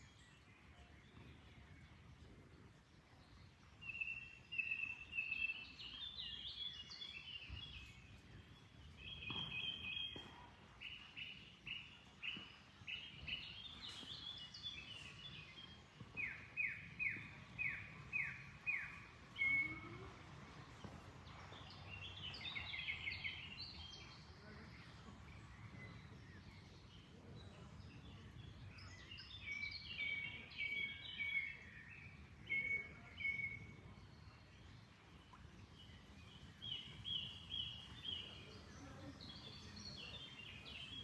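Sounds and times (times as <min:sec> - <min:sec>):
songbirds singing: 0:00.0 - 0:41.0.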